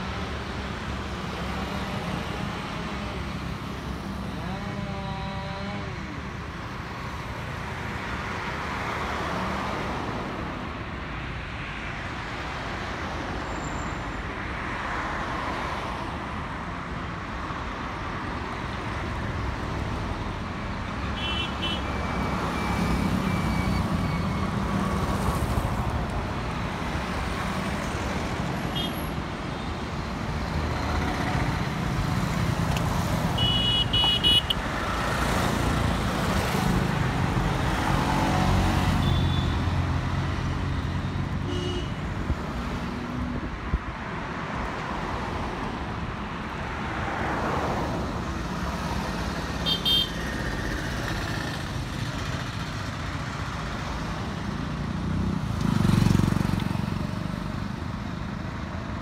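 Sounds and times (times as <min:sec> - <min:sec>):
cars and motorcycles passing: 0:00.0 - 0:13.5, 0:14.1 - 0:59.0.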